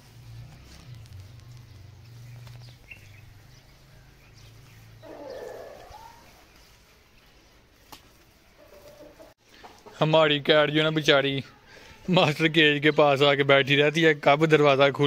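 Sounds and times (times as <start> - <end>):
farmyard birds calling: 0.3 - 13.4.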